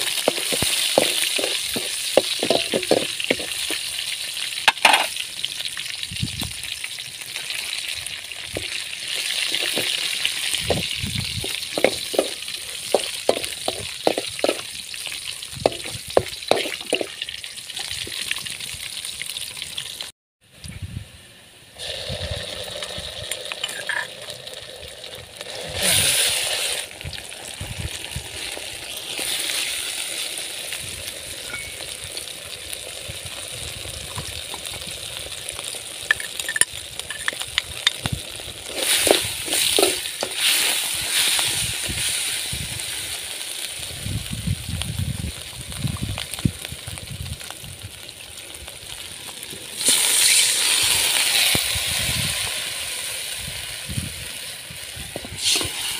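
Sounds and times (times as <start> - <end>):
paste sizzling in pan: 0.0 - 20.1, 21.8 - 55.9
water poured into hot pan: 0.0 - 20.1, 21.8 - 55.9.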